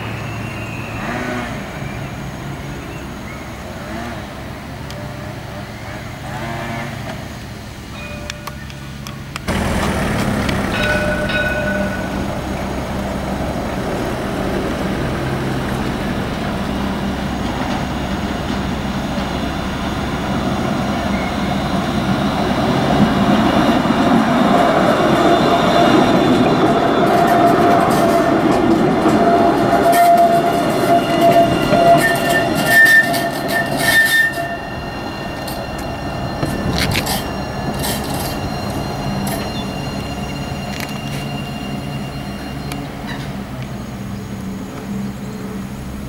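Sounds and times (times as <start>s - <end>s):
electric tram humming: 0.0s - 46.0s
street noise: 0.0s - 46.0s.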